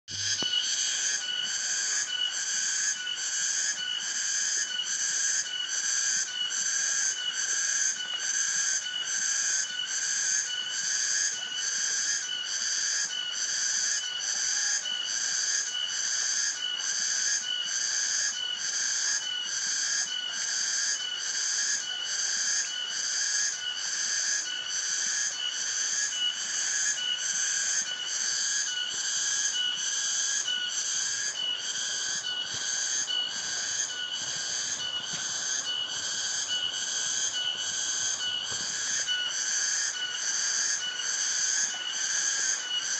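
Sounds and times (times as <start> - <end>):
cicada pulsing song: 0.1 - 42.9.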